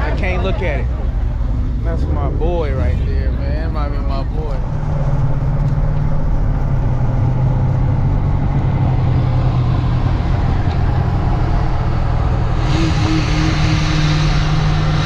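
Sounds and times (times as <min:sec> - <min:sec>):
car engine running: 0:00.0 - 0:15.0
high-pitched rushing noise: 0:00.6 - 0:15.0.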